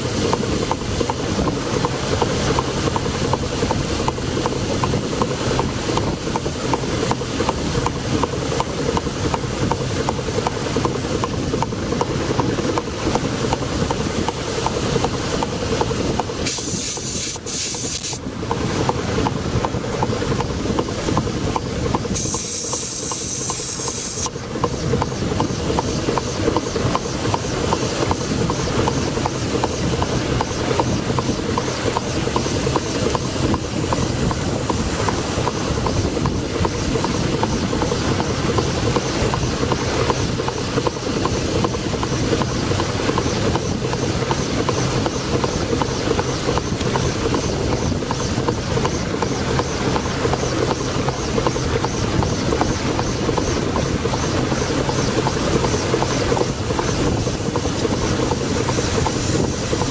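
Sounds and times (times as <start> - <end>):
steam engine running: 0.0 - 59.9.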